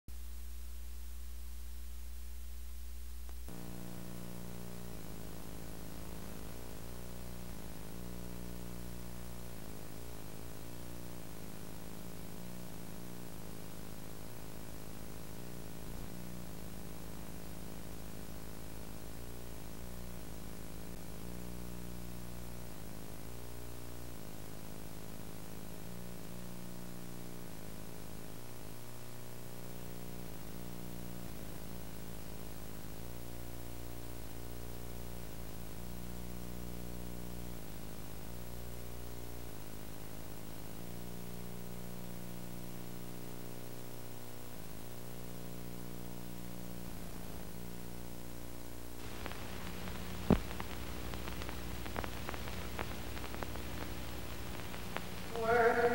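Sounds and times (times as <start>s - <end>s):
low electrical hum: 0.1s - 55.9s
tape hiss: 0.1s - 55.9s.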